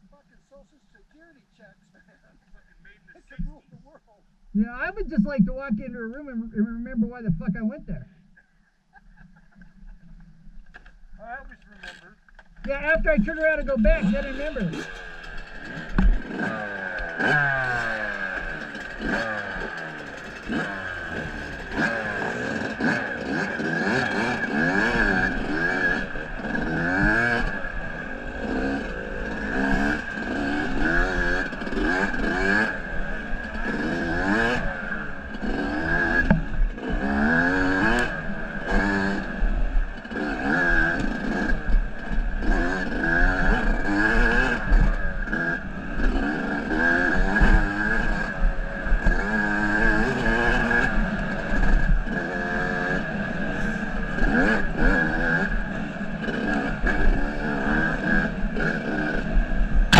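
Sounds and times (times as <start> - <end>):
motorcycle engine revving: 9.5 - 59.9.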